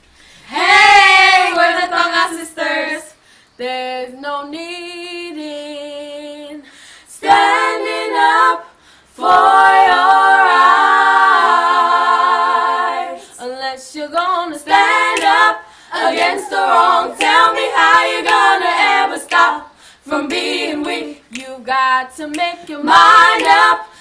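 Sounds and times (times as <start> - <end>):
female vocal group singing a cappella: 0.4 - 24.0.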